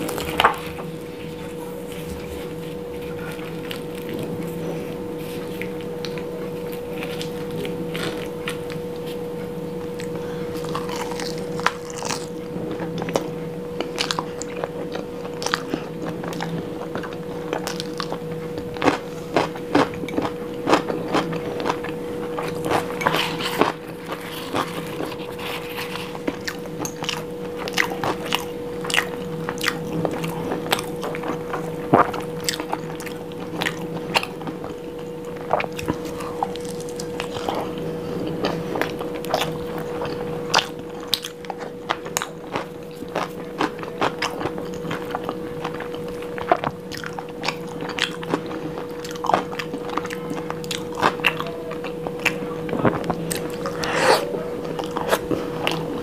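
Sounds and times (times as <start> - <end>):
chewing and biting flatbread: 0.0 - 56.0
faint steady hum: 0.0 - 56.0.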